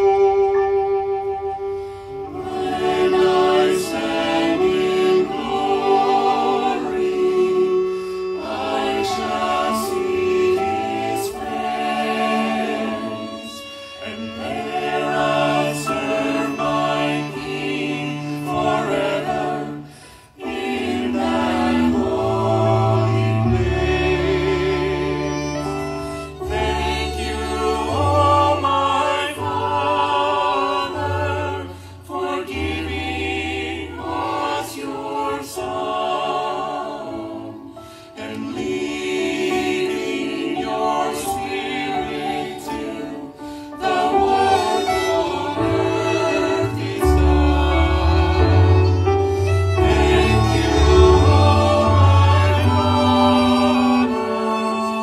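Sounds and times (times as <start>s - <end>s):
mixed choir singing: 0.0s - 55.0s
violin and cello: 0.0s - 55.0s.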